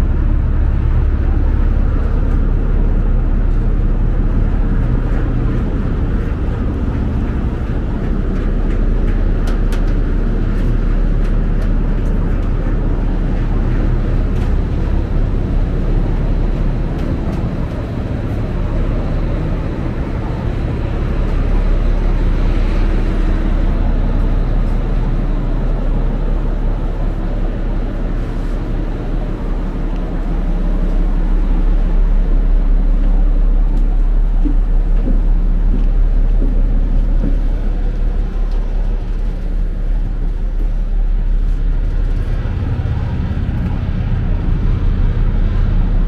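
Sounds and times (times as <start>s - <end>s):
ferry engines rumbling: 0.0s - 46.0s.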